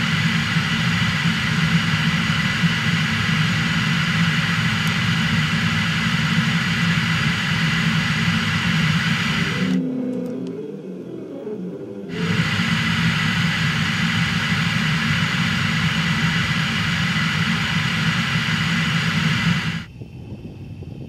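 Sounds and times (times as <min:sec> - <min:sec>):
rushing airflow: 0:00.0 - 0:09.8, 0:12.1 - 0:21.0.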